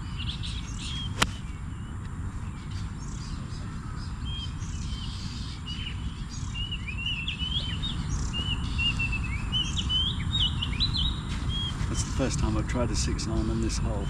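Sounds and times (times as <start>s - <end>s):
low rumble of outdoor noise: 0.0s - 14.0s
small birds chirping and trilling: 0.0s - 14.0s.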